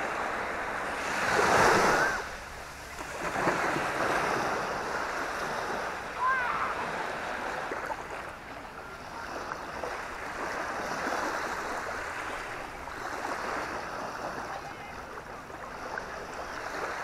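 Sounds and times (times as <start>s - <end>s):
small waves washing onto shore: 0.0s - 17.0s.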